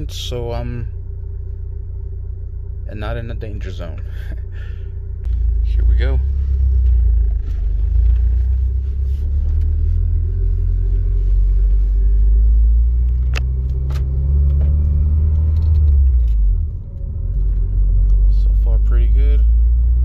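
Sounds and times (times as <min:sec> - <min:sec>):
car exhaust drone accelerating: 0:00.0 - 0:20.0.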